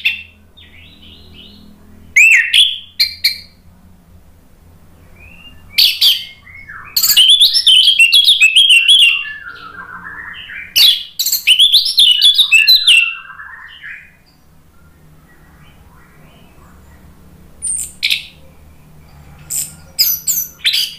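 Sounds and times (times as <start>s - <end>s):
thrush singing: 0.0s - 20.9s.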